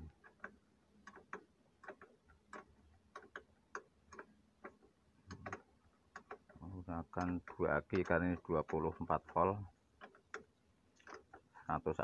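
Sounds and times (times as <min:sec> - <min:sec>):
metal clicks and taps: 0:00.1 - 0:11.5.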